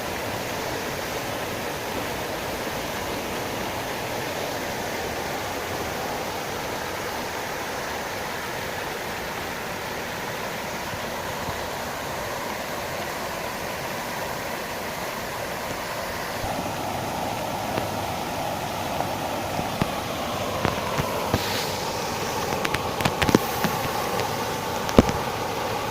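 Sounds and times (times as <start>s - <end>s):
fountain water splashing: 0.0s - 25.9s.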